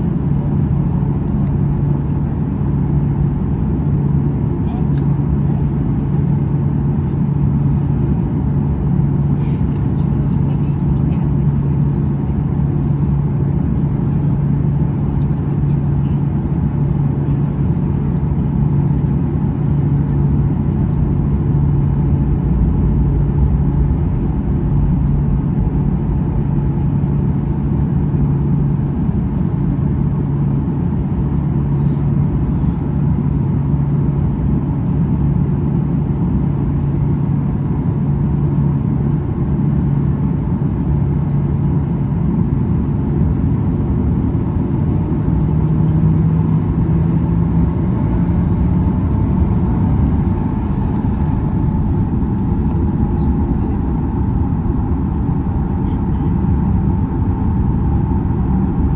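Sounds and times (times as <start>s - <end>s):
airliner cabin drone: 0.0s - 58.9s.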